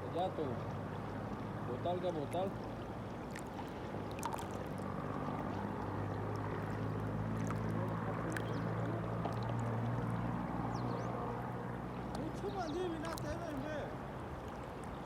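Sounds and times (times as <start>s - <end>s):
river water flowing: 0.0s - 15.0s
small splashes and drips: 0.1s - 15.0s.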